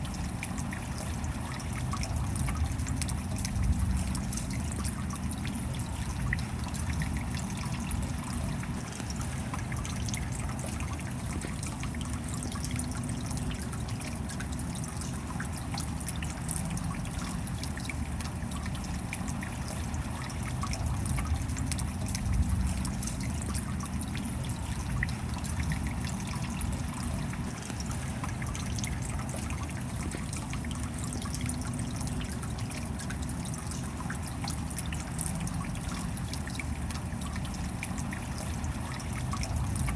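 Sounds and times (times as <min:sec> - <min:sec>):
rain drops pattering: 0:00.0 - 0:39.9
water trickling: 0:00.0 - 0:39.9.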